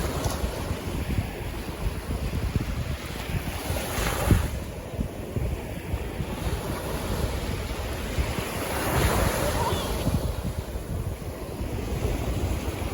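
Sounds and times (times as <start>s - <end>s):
sea waves washing ashore: 0.0s - 12.9s
wind buffeting microphone: 0.0s - 12.9s.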